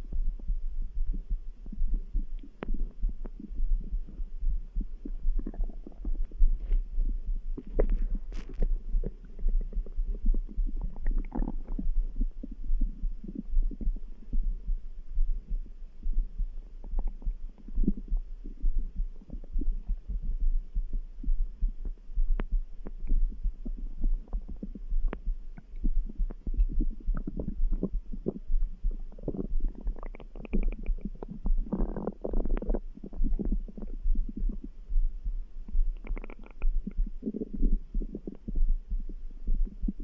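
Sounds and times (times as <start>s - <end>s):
low heartbeat: 0.0s - 40.0s
stomach gurgling and rumbling: 0.0s - 40.0s.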